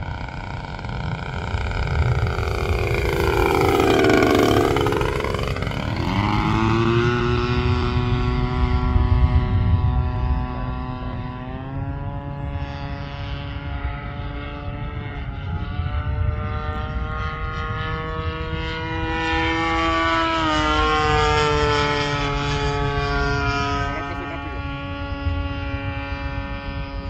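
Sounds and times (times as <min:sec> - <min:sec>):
model plane engine: 0:00.0 - 0:27.0.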